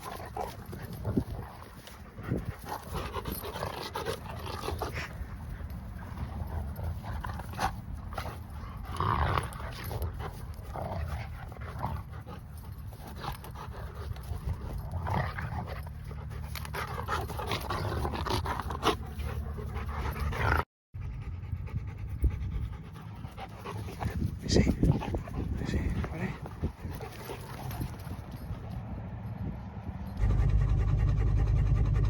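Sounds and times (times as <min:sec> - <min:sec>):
dogs panting: 0:00.0 - 0:28.9.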